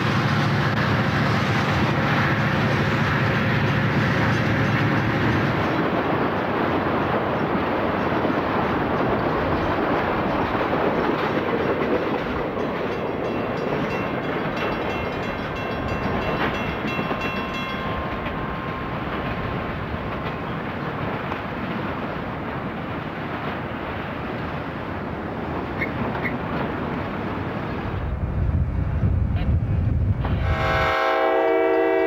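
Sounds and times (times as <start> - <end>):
freight train clattering rumble: 0.0 - 32.0.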